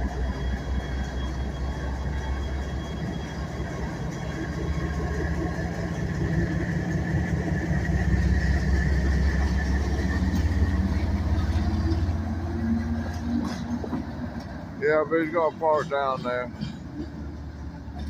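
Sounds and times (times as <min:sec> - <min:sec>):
locomotive engine drone and whine: 0:00.0 - 0:18.0.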